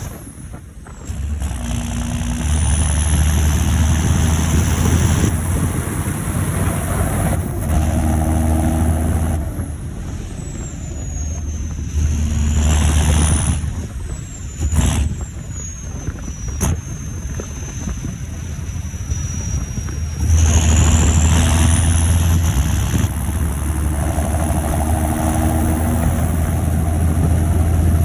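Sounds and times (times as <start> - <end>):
high turbo whistle: 0.0 - 28.0
tractor diesel engine pulling: 0.0 - 28.0.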